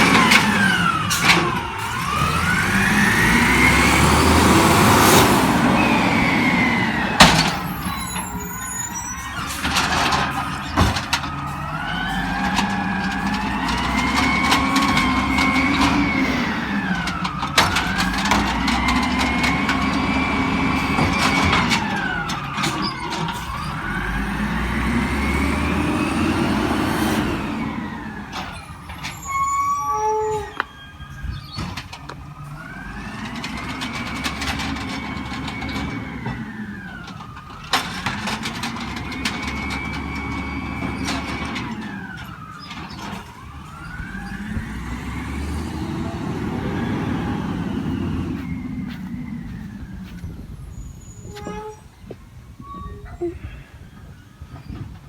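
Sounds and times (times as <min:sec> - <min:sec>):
heavy truck engine running: 0:00.0 - 0:29.2, 0:31.1 - 0:52.8
emergency vehicle siren wailing: 0:00.0 - 0:55.0.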